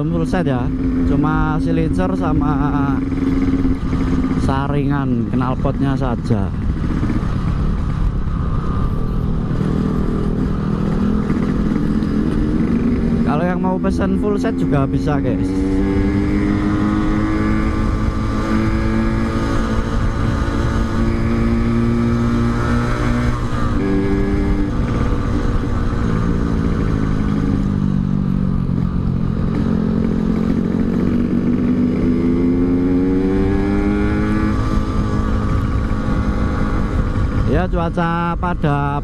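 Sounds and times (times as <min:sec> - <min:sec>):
wind buffeting microphone: 0:00.0 - 0:13.9, 0:14.6 - 0:39.0
two-stroke motorcycle engine: 0:00.0 - 0:39.0.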